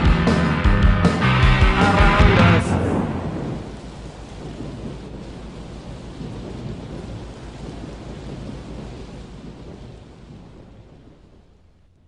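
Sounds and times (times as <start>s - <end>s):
rain hiss: 0.0s - 12.0s
rolling thunder rumble: 0.0s - 12.0s.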